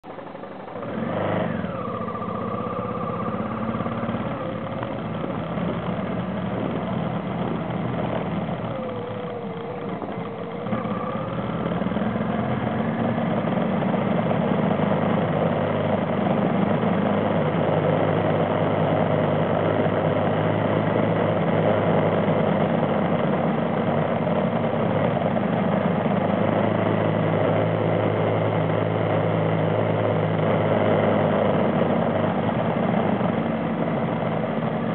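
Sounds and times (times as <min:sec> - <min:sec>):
off-road vehicle engine running: 0:00.0 - 0:34.9.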